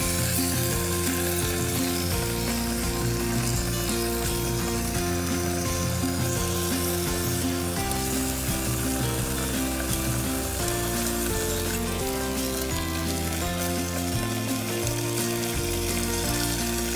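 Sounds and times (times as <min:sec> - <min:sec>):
chicken sizzling in a pot: 0:00.0 - 0:16.9
music with held notes: 0:00.0 - 0:16.9.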